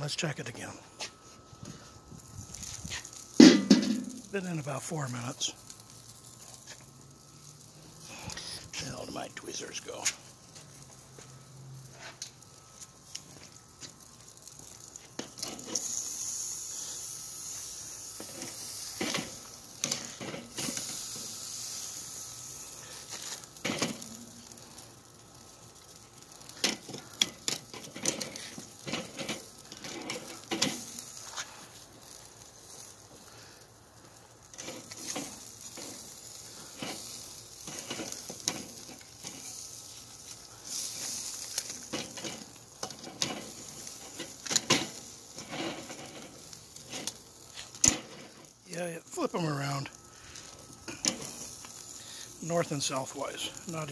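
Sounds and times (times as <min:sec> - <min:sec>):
meat sizzling on grill: 0:00.0 - 0:53.9.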